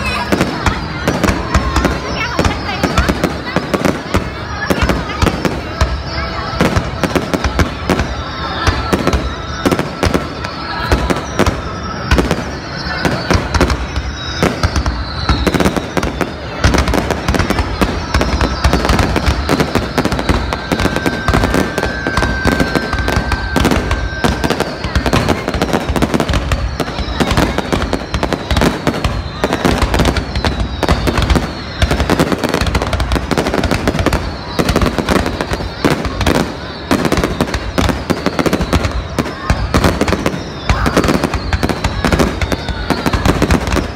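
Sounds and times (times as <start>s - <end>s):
firework bursts and bangs: 0.0s - 43.9s
firework falling whistles: 0.0s - 43.9s.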